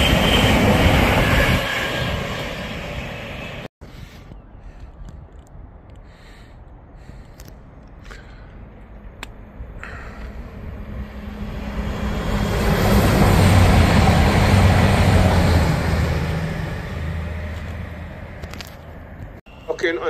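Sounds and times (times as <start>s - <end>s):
passing train rumble: 0.0s - 3.7s, 6.7s - 20.0s.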